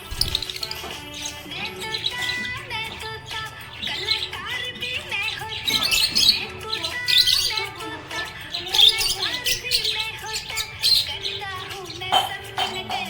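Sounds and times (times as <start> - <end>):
background music with held notes: 0.0 - 13.0
budgerigar chirping and warbling: 0.0 - 13.0.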